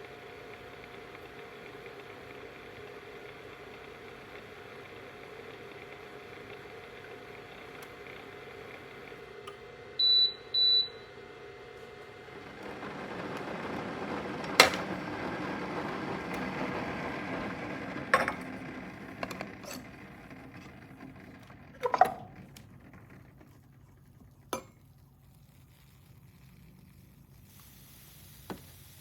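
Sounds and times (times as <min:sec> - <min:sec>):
coffee maker beeping: 0:00.0 - 0:29.0
coffee maker running: 0:00.0 - 0:29.0.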